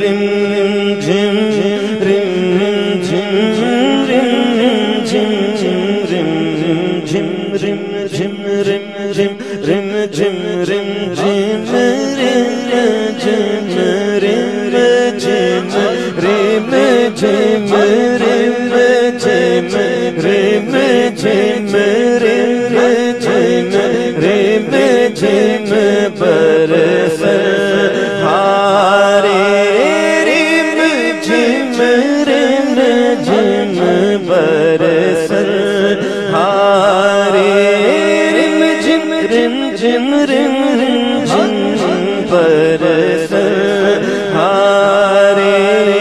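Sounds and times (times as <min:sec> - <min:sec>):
man singing through a microphone: 0:00.0 - 0:46.0.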